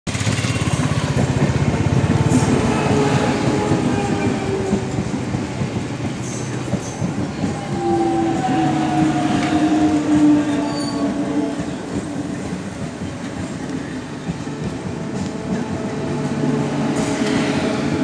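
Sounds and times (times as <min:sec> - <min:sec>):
train rumbling and clattering: 0:00.1 - 0:18.0.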